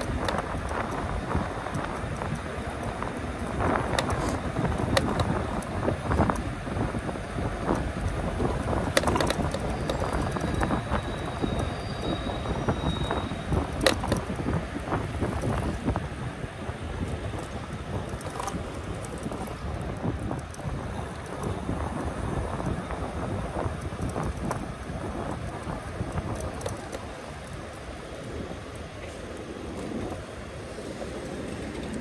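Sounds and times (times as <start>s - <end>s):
low rumble of e-bike riding: 0.0s - 32.0s
wind rushing over microphone: 0.0s - 32.0s.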